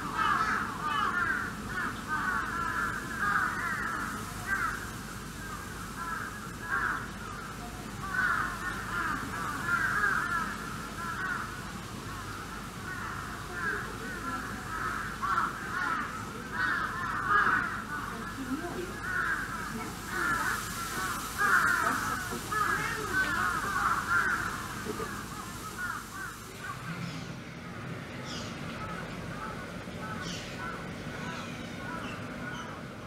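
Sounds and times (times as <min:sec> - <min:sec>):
chorus of animal calls: 0:00.0 - 0:33.0.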